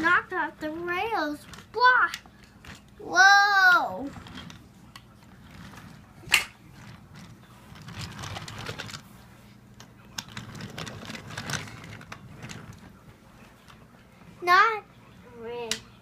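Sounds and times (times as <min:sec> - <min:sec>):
toy trains clicking and rattling: 0:00.0 - 0:09.0, 0:10.0 - 0:16.0.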